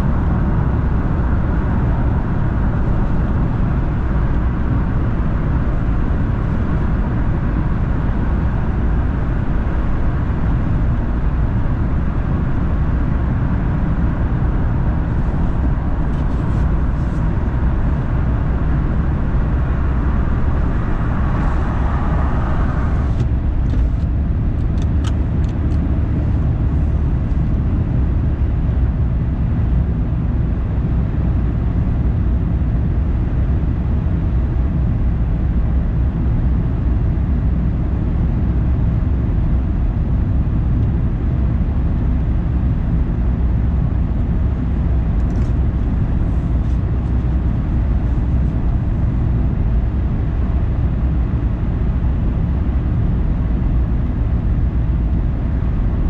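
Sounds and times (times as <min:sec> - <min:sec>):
car road rumble: 0:00.0 - 0:56.0.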